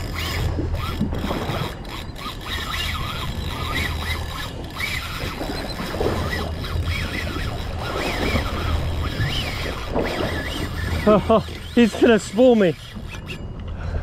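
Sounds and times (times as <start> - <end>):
fishing reel drag buzzing: 0.0 - 14.0.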